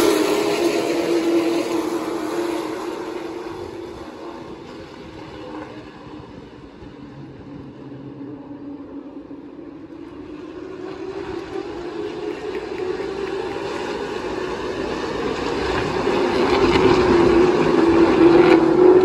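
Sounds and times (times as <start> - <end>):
racing truck engines droning: 0.0 - 19.0.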